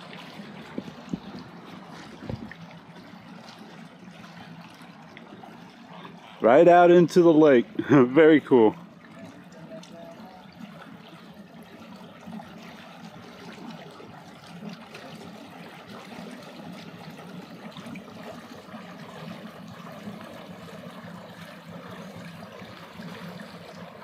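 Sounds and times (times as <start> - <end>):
water lapping and trickling: 0.0 - 24.0.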